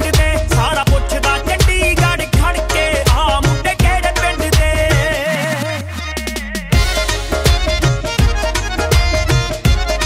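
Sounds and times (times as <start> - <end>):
heavy drum beat with deep bass: 0.0 - 10.0.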